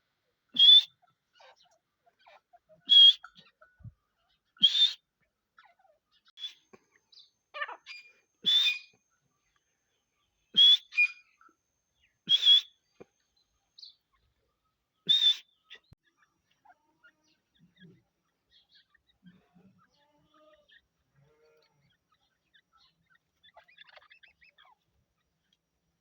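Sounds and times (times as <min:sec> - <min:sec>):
partridge calling: 0:00.5 - 0:09.0, 0:10.5 - 0:11.5, 0:12.2 - 0:12.7, 0:13.7 - 0:20.9, 0:21.8 - 0:25.5.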